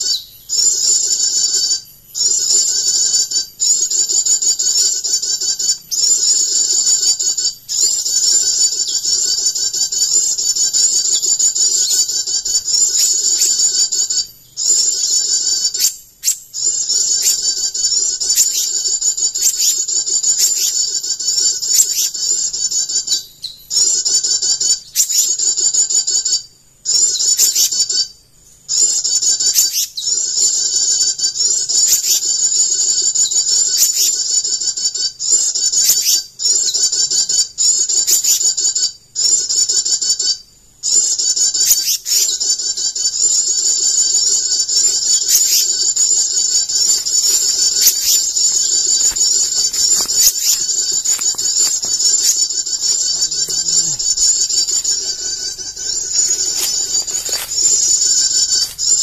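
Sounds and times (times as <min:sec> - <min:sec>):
birds chirping and trilling: 0:00.0 - 0:59.0
sharp repeated bird chirps: 0:00.0 - 0:59.0.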